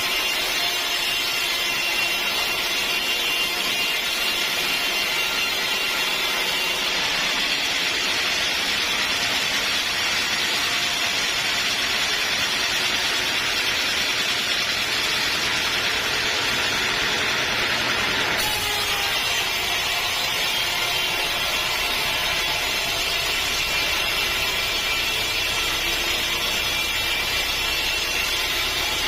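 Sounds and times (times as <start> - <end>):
sawmill running: 0.0 - 29.0.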